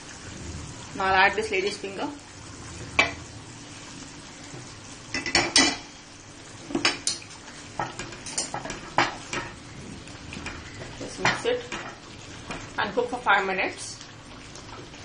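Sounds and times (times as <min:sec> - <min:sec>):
curry simmering: 0:00.0 - 0:15.0.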